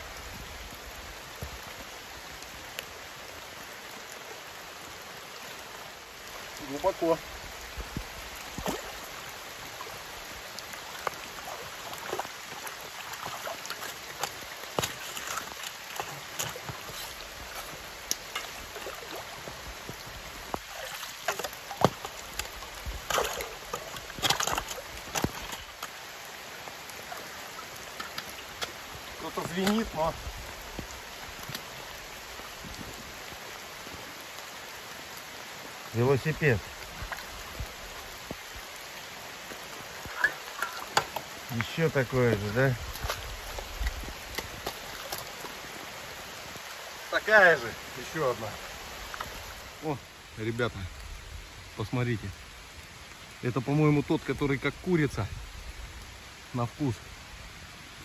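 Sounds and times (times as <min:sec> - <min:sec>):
rain falling on stream: 0:00.0 - 0:58.0
stream water running: 0:00.0 - 0:58.0.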